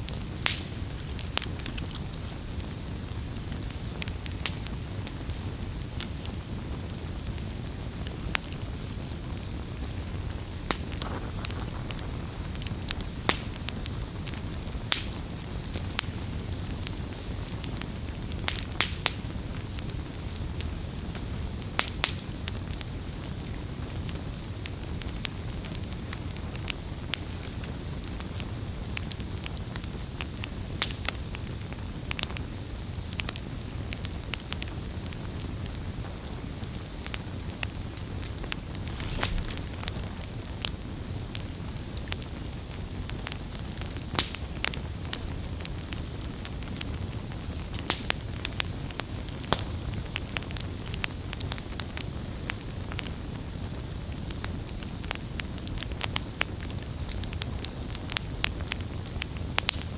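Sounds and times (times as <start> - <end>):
campfire crackling and popping: 0.0 - 59.9
low rumble of fire: 0.0 - 59.9.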